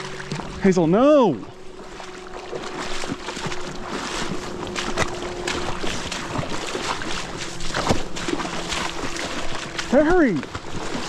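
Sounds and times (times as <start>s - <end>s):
rushing water: 0.0s - 11.0s
splashing in shallow water: 0.0s - 11.0s.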